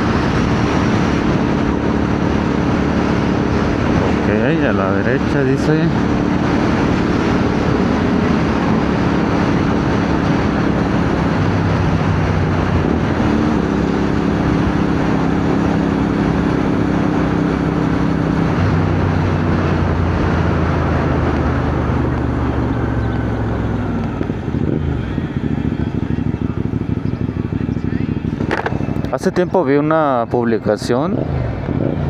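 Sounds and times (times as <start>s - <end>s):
motorcycle engine: 0.0s - 32.0s.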